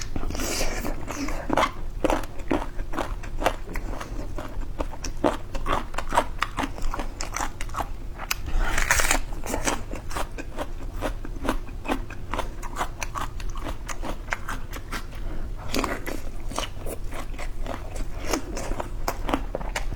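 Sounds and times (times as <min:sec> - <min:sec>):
wet crunchy chewing: 0:00.0 - 0:19.9.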